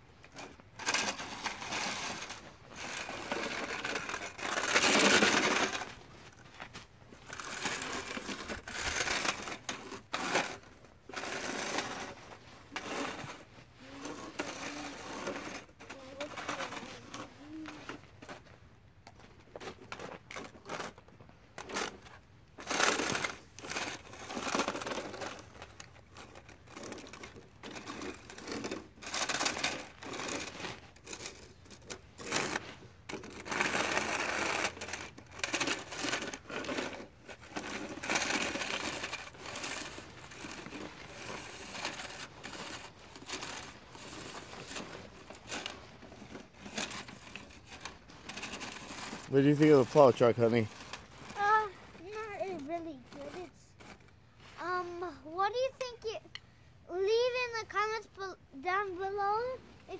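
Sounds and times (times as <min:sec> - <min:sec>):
toy plow scraping snow: 0:00.2 - 0:18.5, 0:19.6 - 0:56.2.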